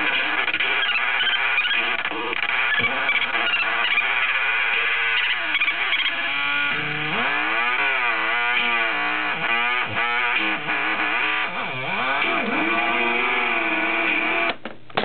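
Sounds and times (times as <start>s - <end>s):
buzzy tone swooping up and down: 0.0s - 14.5s
glitchy electronic toy keyboard noise: 0.0s - 14.6s.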